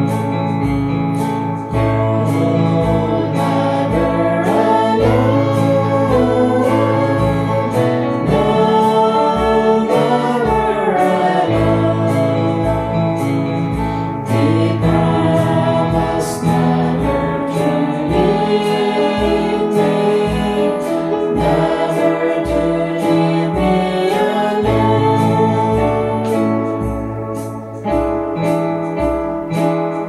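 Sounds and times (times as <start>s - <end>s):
instrumental accompaniment: 0.0s - 30.0s
voices singing a hymn: 1.7s - 27.9s.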